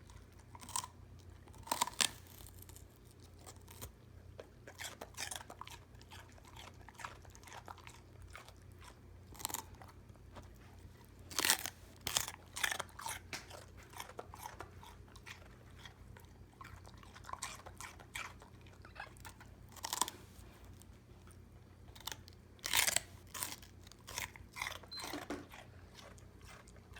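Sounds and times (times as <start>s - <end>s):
celery being bitten and chewed: 0.0s - 26.9s.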